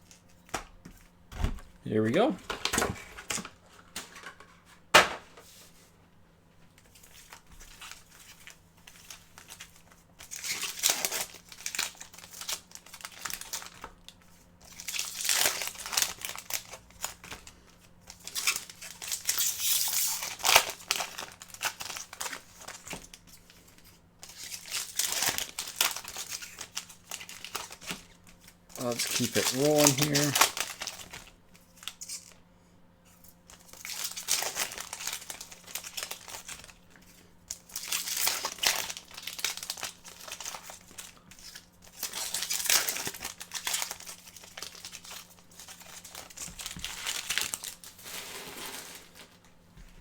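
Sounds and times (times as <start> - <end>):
foil wrappers tearing and crinkling: 7.0 - 32.4, 33.4 - 49.4.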